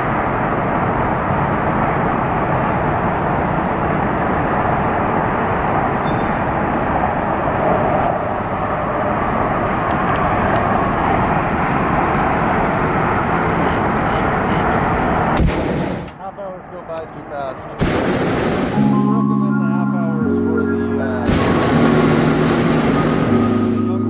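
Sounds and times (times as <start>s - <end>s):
propane burner roaring: 0.0s - 16.2s, 16.8s - 19.1s, 21.2s - 24.0s.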